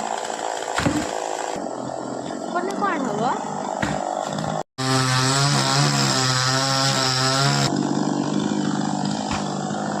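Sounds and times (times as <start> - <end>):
chainsaw engine running: 0.0 - 10.0.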